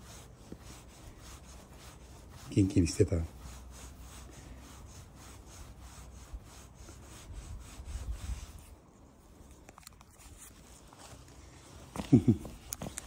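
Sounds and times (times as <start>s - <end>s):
hand stroking cat fur: 0.0s - 13.0s.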